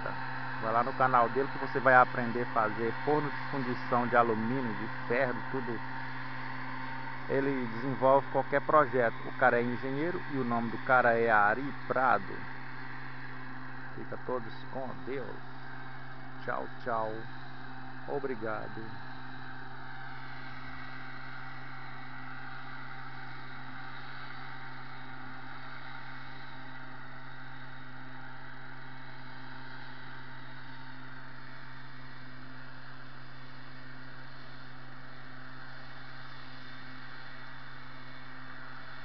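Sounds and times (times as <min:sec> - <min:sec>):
sprayer engine humming: 0:00.0 - 0:39.0.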